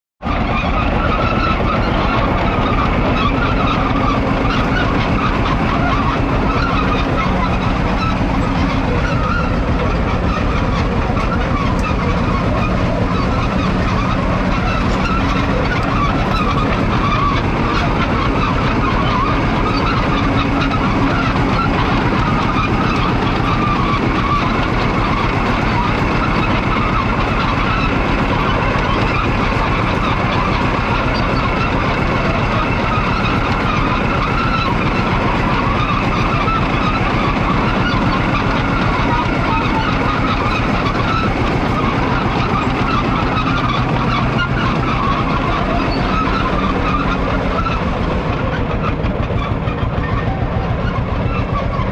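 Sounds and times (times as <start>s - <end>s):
diesel engine running steadily: 0.2s - 51.9s.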